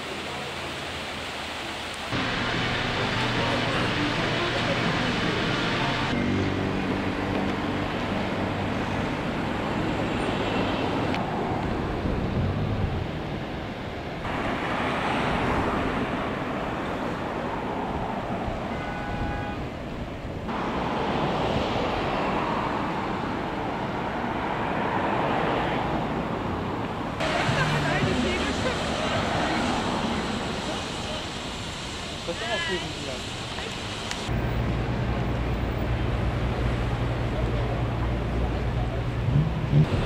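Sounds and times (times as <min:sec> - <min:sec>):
street traffic hiss: 0:00.0 - 0:40.0.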